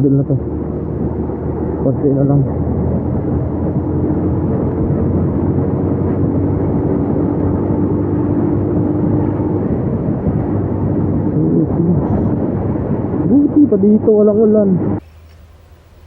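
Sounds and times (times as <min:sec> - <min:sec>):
motorcycle engine cruising: 0:00.0 - 0:16.0
wind noise: 0:00.0 - 0:16.0.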